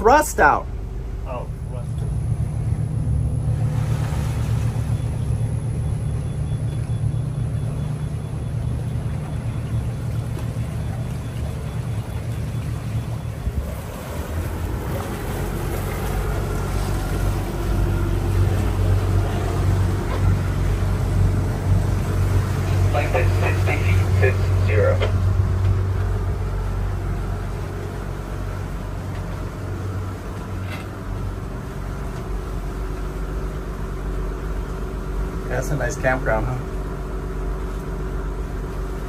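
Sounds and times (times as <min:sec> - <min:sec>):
boat engine running: 0:00.0 - 0:39.0
water churning along hull: 0:00.0 - 0:39.0.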